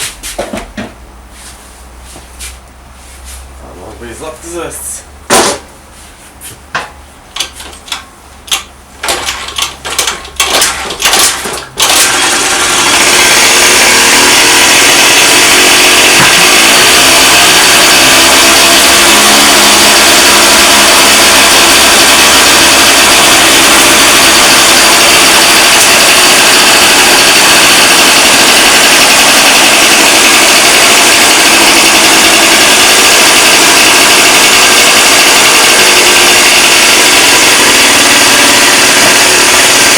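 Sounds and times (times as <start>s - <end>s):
scooter engine cranking and running: 7.4s - 39.9s.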